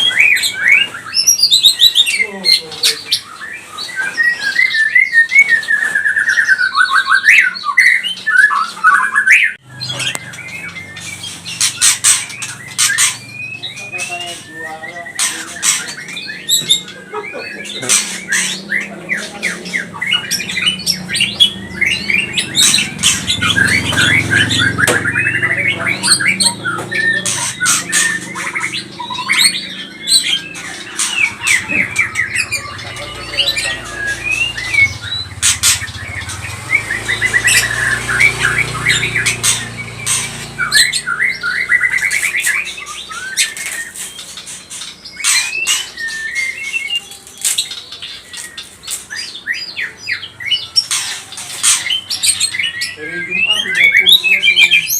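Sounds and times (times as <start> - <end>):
bird harsh chatter: 0.0 - 54.9.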